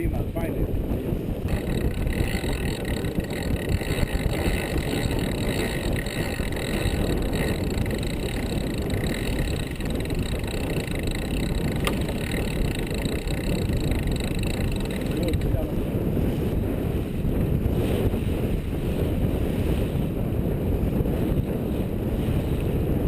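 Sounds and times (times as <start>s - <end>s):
water along hull: 0.0s - 23.0s
wind on microphone: 0.0s - 23.0s.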